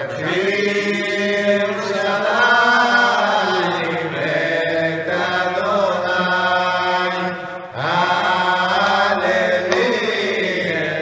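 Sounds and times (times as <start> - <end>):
men singing together: 0.0 - 11.0.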